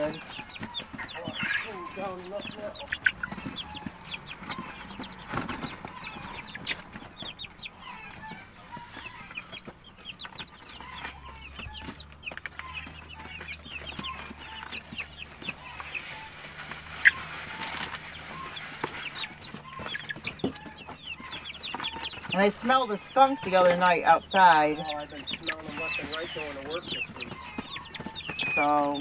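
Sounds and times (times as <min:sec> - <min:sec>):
chickens clucking and cackling: 0:00.0 - 0:29.0.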